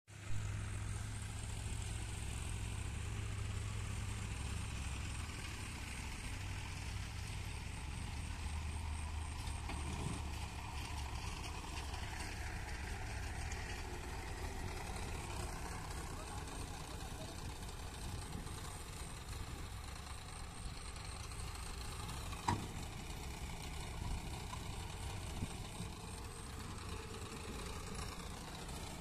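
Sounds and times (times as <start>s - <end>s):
tractor diesel engine running: 0.1s - 29.0s.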